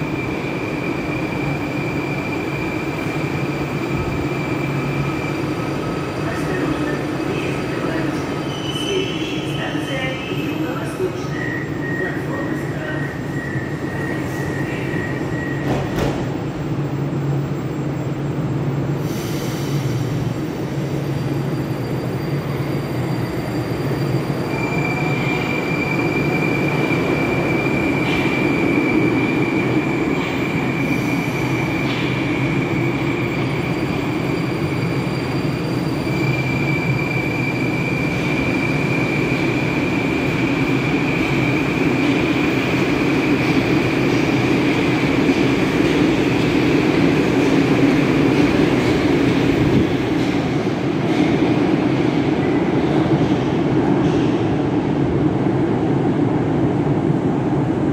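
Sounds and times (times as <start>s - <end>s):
train rumbling along platform: 0.0s - 57.9s.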